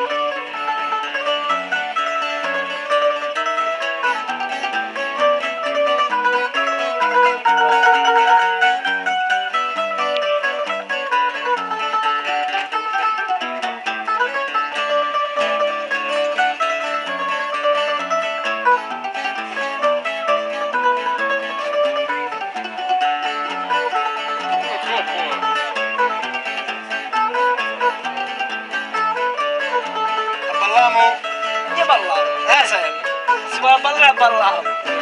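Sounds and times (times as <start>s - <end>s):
plucked string instruments folk tune: 0.0s - 35.0s.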